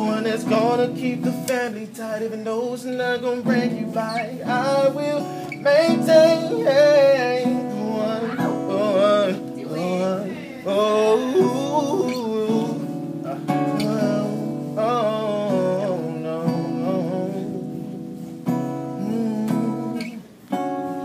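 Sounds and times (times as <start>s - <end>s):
acoustic guitar chords: 0.0s - 21.0s
man singing melodic runs: 0.0s - 21.0s.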